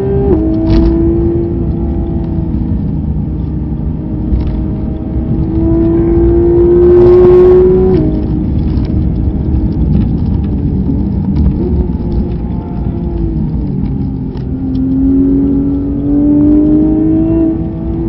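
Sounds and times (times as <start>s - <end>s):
race car engine accelerating: 0.0s - 18.0s
road and wind rush: 0.0s - 18.0s.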